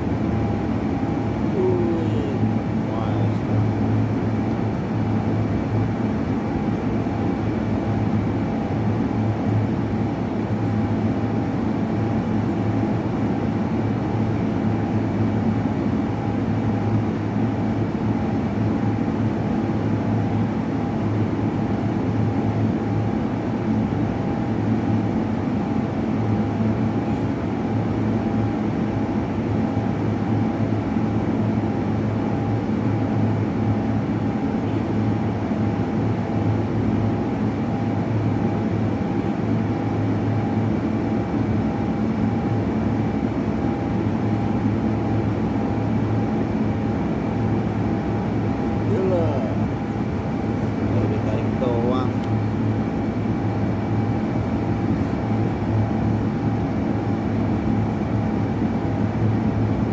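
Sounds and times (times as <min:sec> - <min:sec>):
machine low hum: 0:00.0 - 0:59.9.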